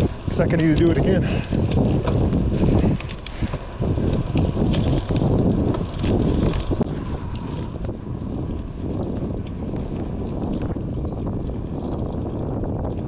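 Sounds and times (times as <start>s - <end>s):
bike tyre noise on asphalt: 0.0s - 13.0s
wind buffeting microphone: 0.0s - 13.0s.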